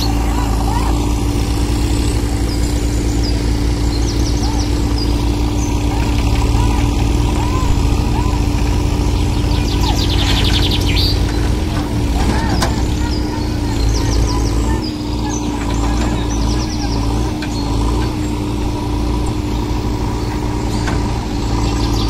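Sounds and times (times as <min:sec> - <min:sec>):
birds chirping: 0:00.0 - 0:22.0
diesel engines running under load: 0:00.0 - 0:22.0.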